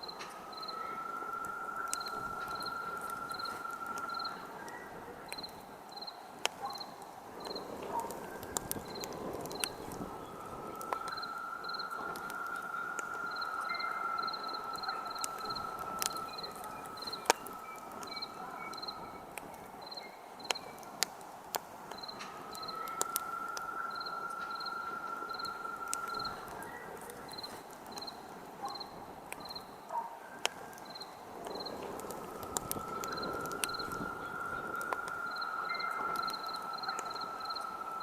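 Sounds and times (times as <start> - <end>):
thin steady whistle: 0.0 - 21.0, 21.9 - 38.0
campfire crackling and popping: 0.0 - 38.0
crickets chirping: 0.0 - 38.0.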